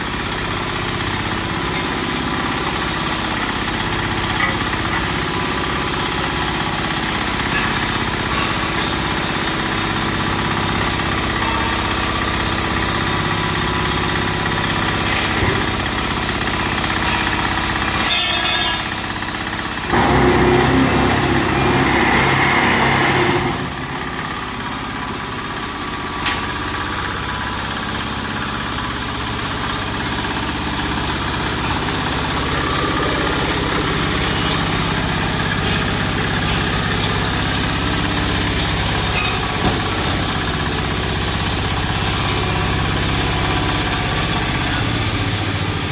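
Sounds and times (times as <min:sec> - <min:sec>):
diesel engine running: 0:00.0 - 0:45.9
harsh machine rattling: 0:00.0 - 0:45.9.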